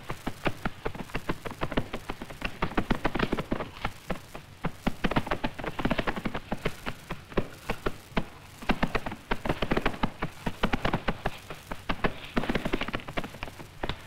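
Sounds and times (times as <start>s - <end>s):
horses' hooves clattering: 0.0s - 14.0s.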